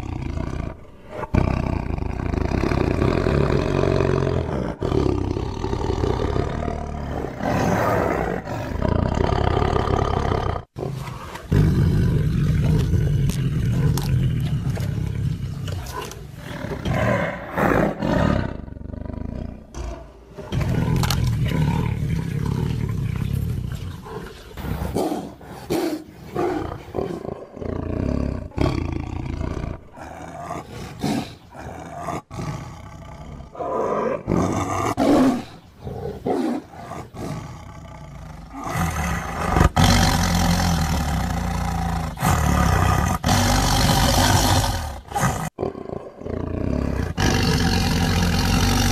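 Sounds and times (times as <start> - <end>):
tiger roaring and growling: 0.0 - 48.9.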